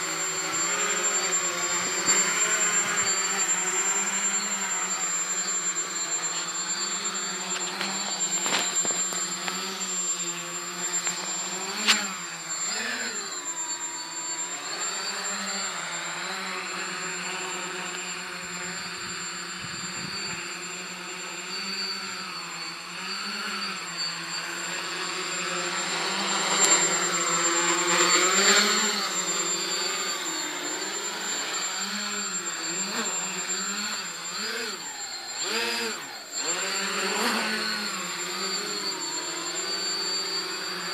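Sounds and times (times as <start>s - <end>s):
drone propellers buzzing: 0.0s - 40.9s.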